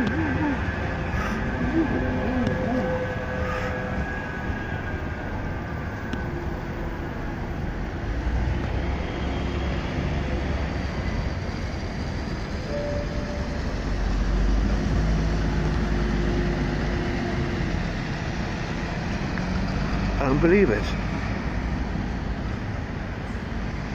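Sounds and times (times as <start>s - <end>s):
street traffic noise: 0.0s - 23.9s
tram rumbling past: 0.0s - 23.9s.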